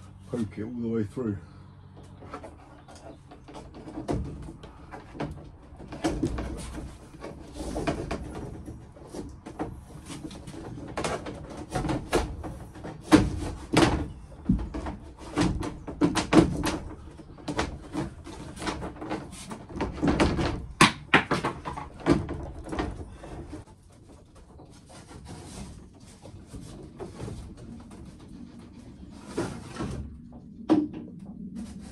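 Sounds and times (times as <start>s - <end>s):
knocks and scraping on wooden panels: 1.8s - 31.9s.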